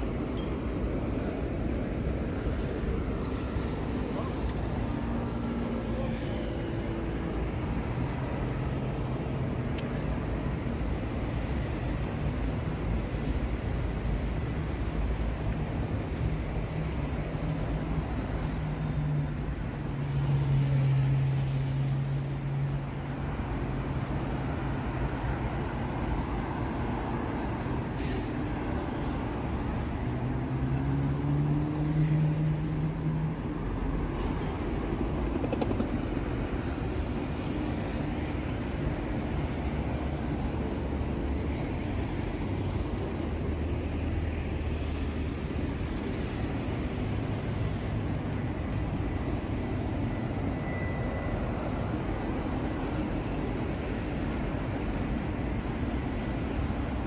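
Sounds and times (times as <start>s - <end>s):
street traffic passing: 0.0s - 57.0s.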